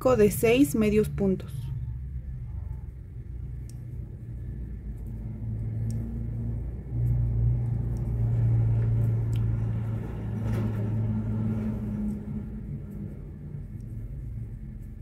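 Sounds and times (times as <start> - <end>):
low engine-like rumble: 0.0 - 15.0
low hum: 0.0 - 15.0.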